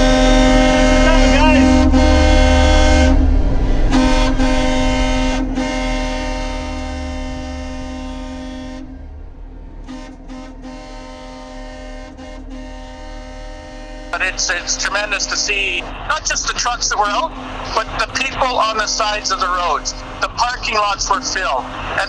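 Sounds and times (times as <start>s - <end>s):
vehicle horn blast: 0.0s - 8.9s, 9.8s - 22.0s
low rumble: 0.0s - 22.0s.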